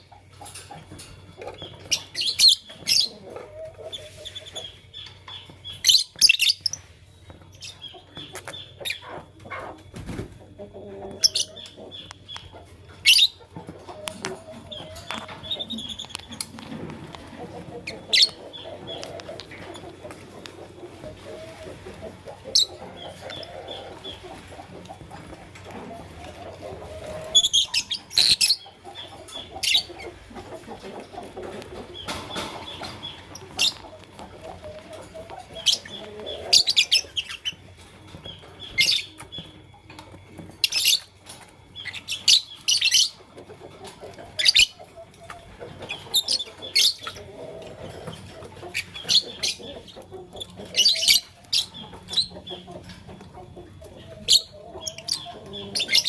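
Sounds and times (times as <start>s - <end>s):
low bird chatter: 0.0s - 56.0s.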